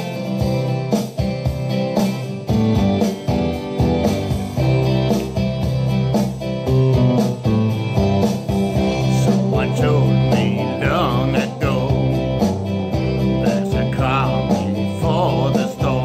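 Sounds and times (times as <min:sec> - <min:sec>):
rock music: 0:00.0 - 0:16.0.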